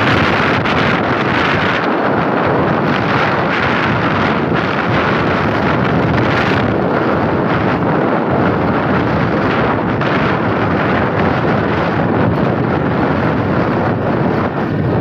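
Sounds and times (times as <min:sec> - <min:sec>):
vehicle running and road noise: 0:00.0 - 0:15.0
wind buffeting microphone: 0:00.0 - 0:15.0.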